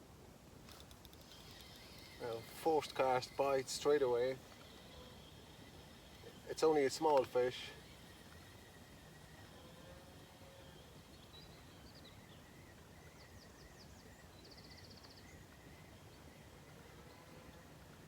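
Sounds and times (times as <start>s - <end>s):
small bird chirps: 1.2s - 17.8s
bird trill: 1.2s - 17.9s.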